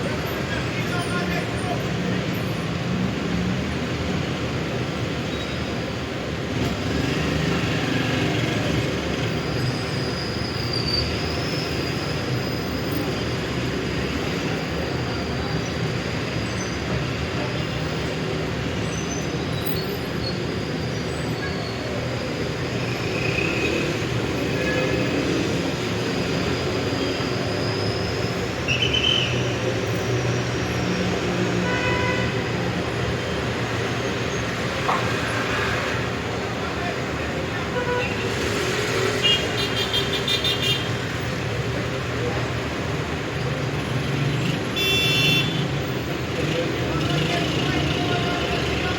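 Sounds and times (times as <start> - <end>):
traffic rumble: 0.0 - 48.9.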